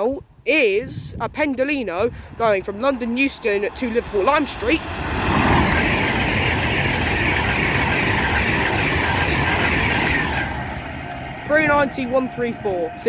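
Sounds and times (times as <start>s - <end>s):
electric train passing at speed: 1.4s - 13.0s.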